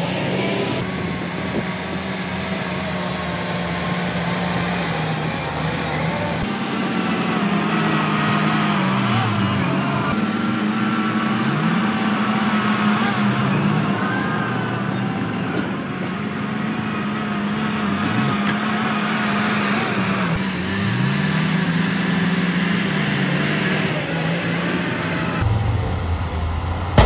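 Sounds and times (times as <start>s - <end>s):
heavy diesel engine under load: 0.0s - 27.0s.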